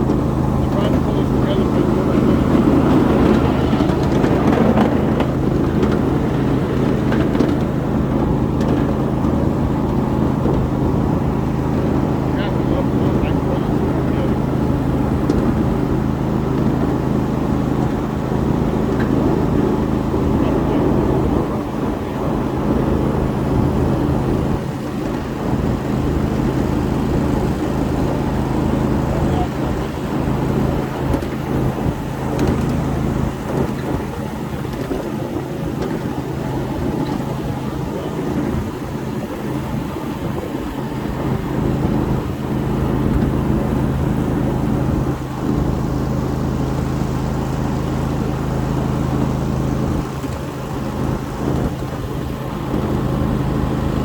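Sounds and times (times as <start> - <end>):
ride-on train drone and rumble: 0.0 - 54.0
wheels clicking on rails: 0.0 - 54.0.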